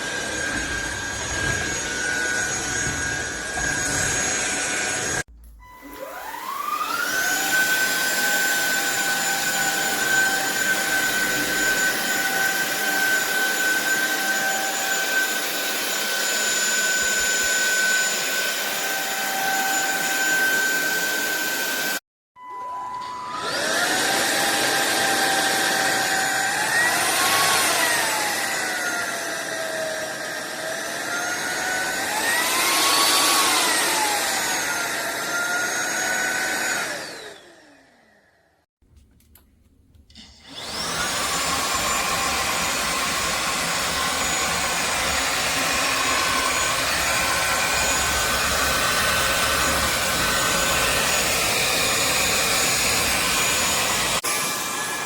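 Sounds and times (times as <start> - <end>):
vacuum motor winding down: 0.0 - 22.0, 23.0 - 38.4, 40.2 - 55.0
stick vacuum motor whine: 0.0 - 38.4, 40.1 - 55.0.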